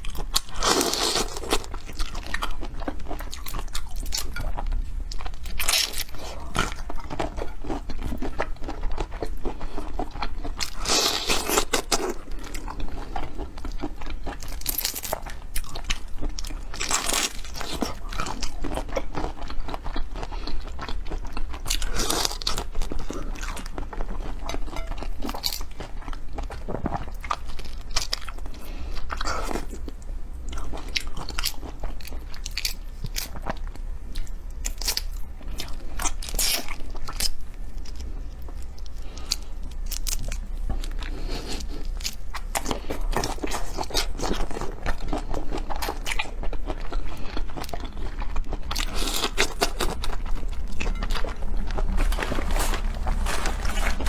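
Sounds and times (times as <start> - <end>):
crunchy chewing of seafood: 0.0 - 54.0.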